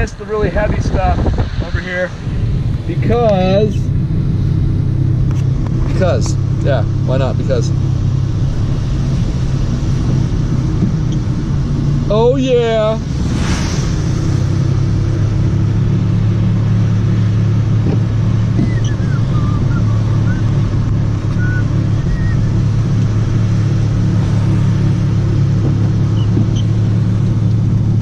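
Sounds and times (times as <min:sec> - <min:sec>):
car engine and tyres drone: 0:00.0 - 0:28.0.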